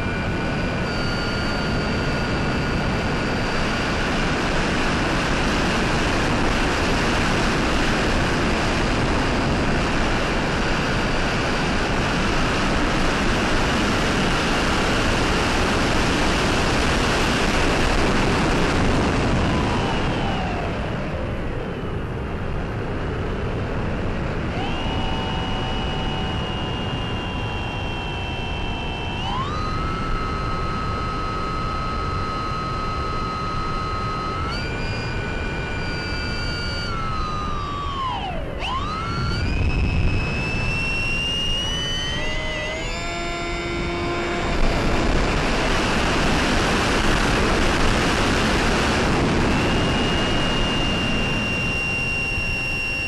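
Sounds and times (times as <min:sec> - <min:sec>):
model plane motor whine: 0:00.0 - 0:53.0.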